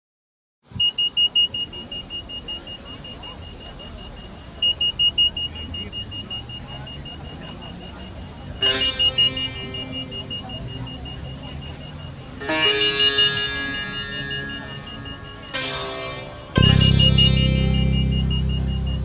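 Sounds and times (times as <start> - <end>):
rapid high-pitched electronic beeping: 1.3 - 19.0.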